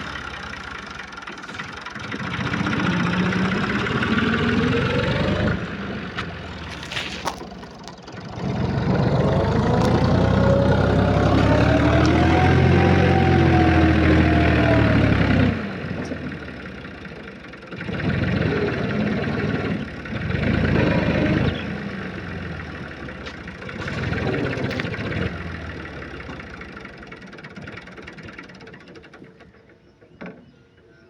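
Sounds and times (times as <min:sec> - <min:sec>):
tractor diesel engine working hard: 0:00.0 - 0:29.9.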